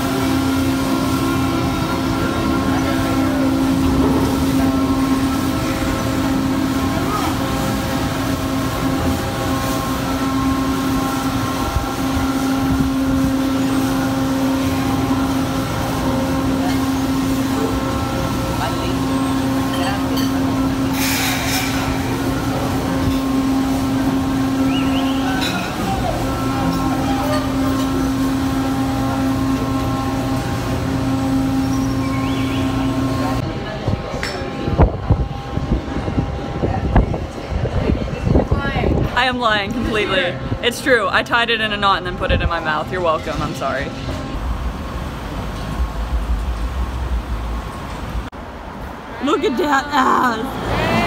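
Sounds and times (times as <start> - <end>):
electric locomotive machine hum: 0.0 - 51.0.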